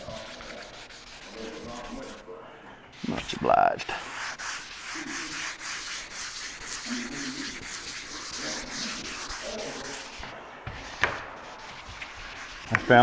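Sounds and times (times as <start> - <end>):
sandpaper rubbing wet panel: 0.0 - 2.2, 3.0 - 13.0.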